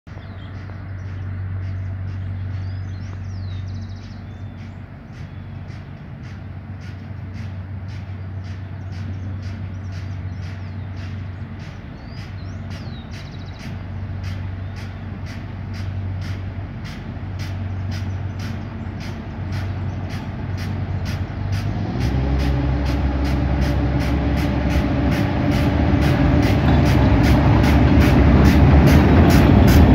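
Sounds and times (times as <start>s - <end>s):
diesel engine droning: 0.1s - 29.9s.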